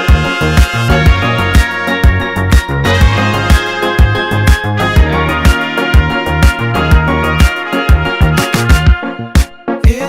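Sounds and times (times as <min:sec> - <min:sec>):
brass-like melody: 0:00.0 - 0:09.9
dance music kick drum: 0:00.0 - 0:10.0.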